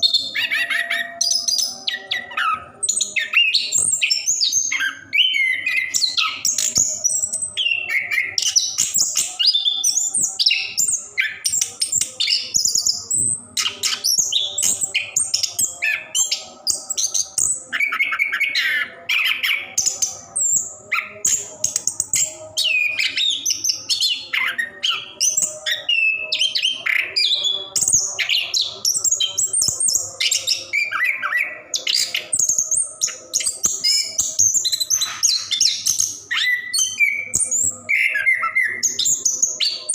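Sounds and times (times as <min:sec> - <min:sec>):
thrush singing: 0:00.0 - 0:39.9.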